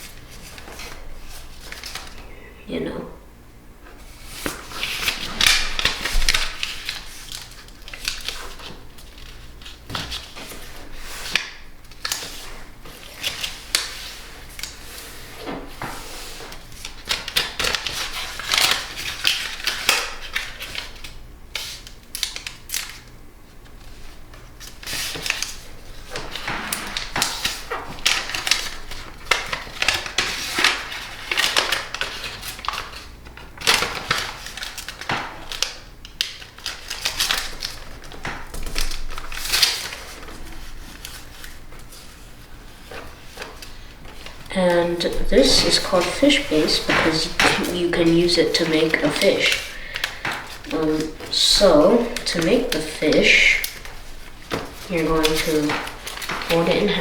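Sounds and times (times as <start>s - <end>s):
paper crinkling and rustling: 0.0s - 2.4s, 4.0s - 57.0s.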